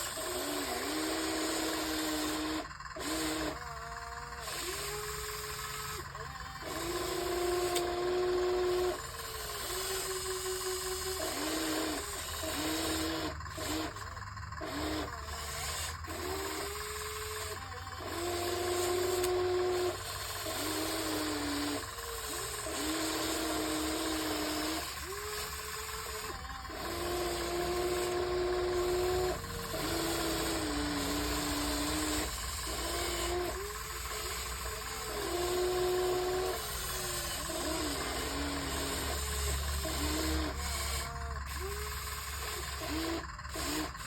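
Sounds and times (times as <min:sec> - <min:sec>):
small electric motors whining: 0:00.0 - 0:44.0.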